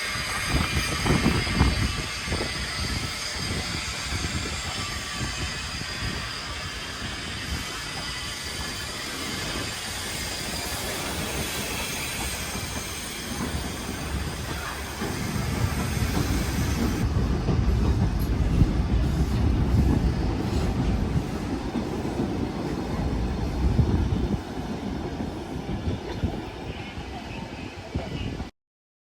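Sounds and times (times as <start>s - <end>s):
train running on rails: 0.0s - 28.5s.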